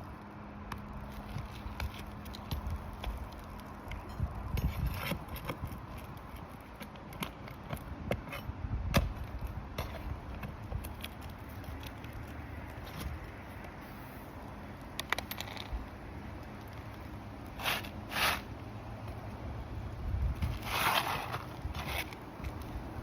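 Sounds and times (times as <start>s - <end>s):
hand work on a roof: 0.7s - 15.9s, 16.6s - 19.2s, 20.3s - 23.0s.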